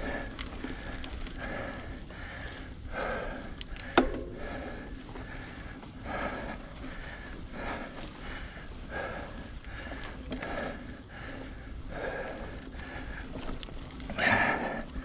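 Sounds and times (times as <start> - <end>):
low rumble of bike ride: 0.0 - 15.0
person breathing hard: 0.0 - 15.0.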